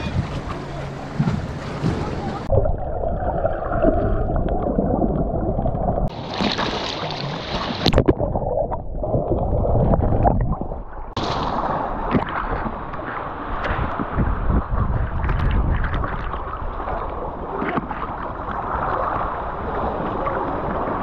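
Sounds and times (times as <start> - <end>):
underwater gurgling and rumble: 0.0 - 21.0
water splashing and sloshing: 0.0 - 21.0.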